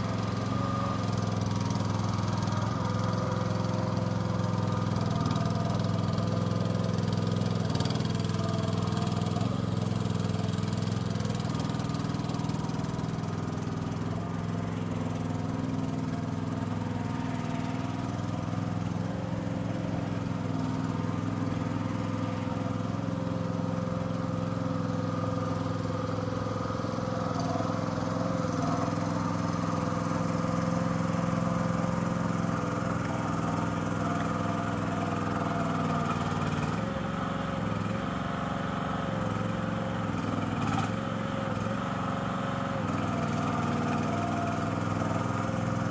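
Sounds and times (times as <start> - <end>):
mini dumper engine running: 0.0 - 45.9.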